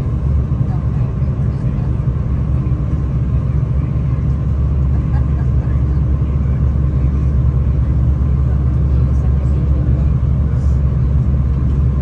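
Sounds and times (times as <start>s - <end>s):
train rumble from inside carriage: 0.0s - 12.0s.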